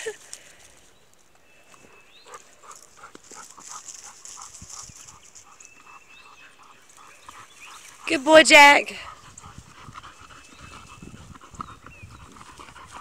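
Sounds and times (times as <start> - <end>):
dog panting: 2.2 - 13.0.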